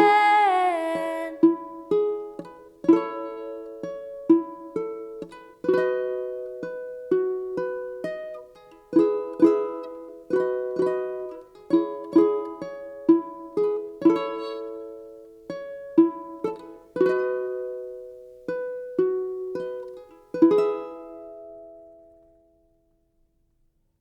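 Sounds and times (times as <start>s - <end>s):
ukulele chords: 0.0s - 22.6s.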